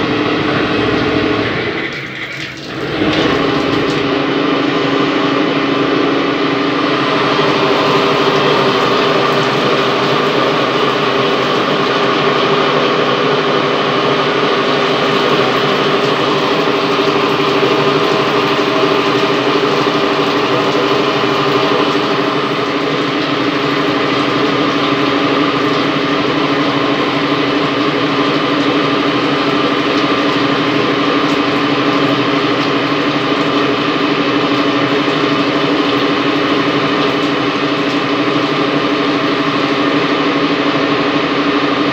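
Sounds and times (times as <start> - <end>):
lathe machine hum: 0.0 - 41.9.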